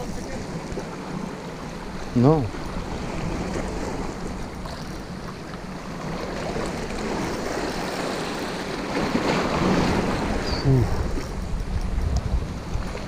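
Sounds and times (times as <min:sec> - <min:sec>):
sea surf: 0:00.0 - 0:13.0
wind on microphone: 0:01.9 - 0:13.0.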